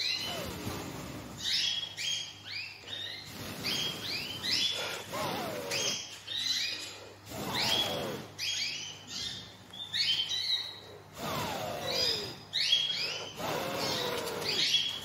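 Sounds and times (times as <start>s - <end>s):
finch chirping: 0.0s - 15.0s
wavering squeaky bird calls: 1.4s - 15.0s.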